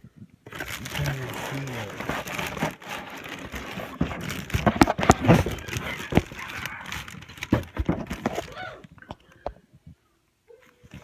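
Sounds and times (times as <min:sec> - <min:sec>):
plastic and cardboard rustling: 0:00.4 - 0:09.6.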